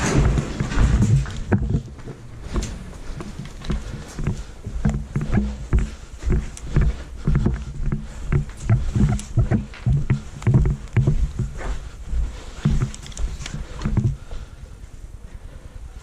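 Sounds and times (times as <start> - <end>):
gear knocking against camera: 0.0 - 11.9, 12.5 - 14.4
footsteps: 0.0 - 14.6.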